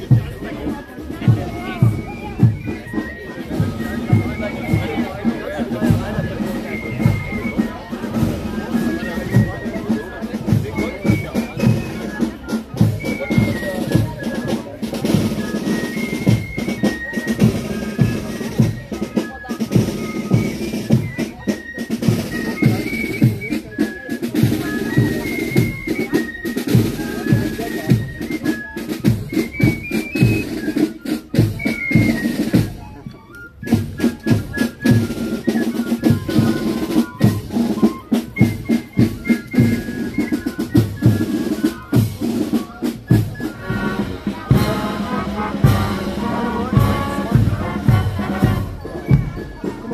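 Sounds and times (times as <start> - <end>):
marching band playing: 0.0 - 49.9
snare drums: 0.0 - 49.9.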